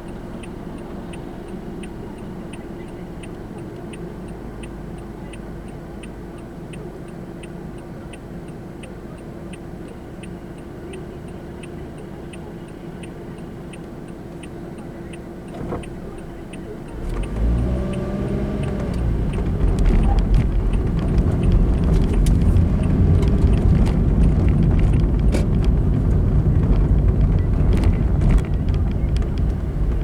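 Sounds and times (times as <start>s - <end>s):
car engine accelerating: 0.0s - 30.0s
road noise: 0.0s - 30.0s
turn signal ticking: 0.0s - 30.0s.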